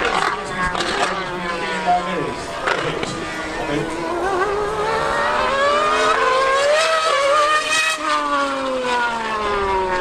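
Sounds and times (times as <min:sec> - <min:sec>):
high-revving engines: 0:00.0 - 0:10.0
lower engine note passing: 0:00.0 - 0:10.0.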